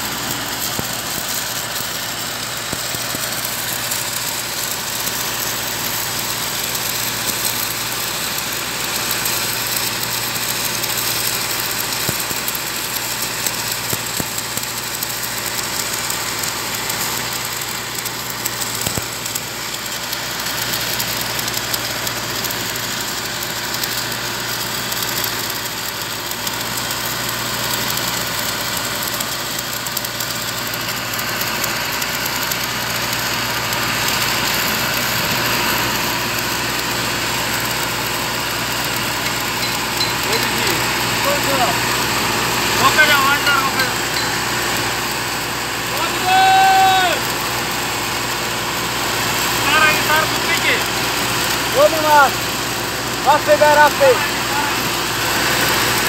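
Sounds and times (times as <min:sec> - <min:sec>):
engine droning: 0:00.0 - 0:56.0
welding arcs crackling and hissing: 0:00.0 - 0:56.0.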